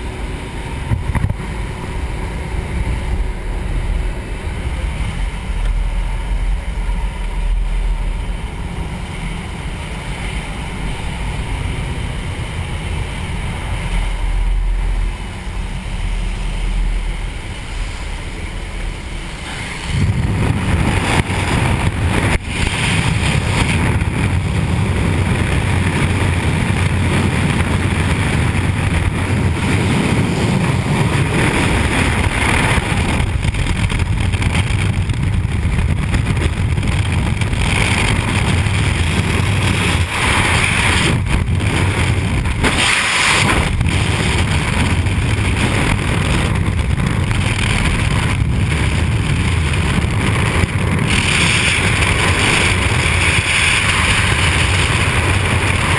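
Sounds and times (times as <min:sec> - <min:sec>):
plane engine and propeller drone: 0:00.0 - 0:55.9
wind rushing on microphone: 0:00.0 - 0:55.9.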